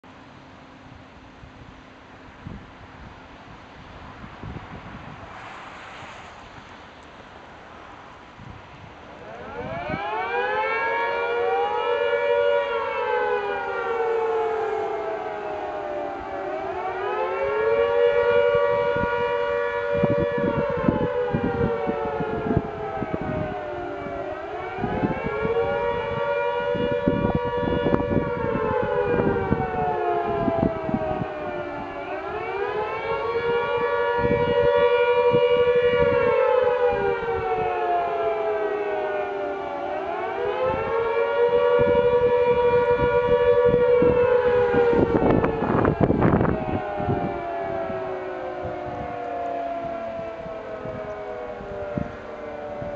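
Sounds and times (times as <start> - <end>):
air-raid siren wailing: 0.0 - 52.9.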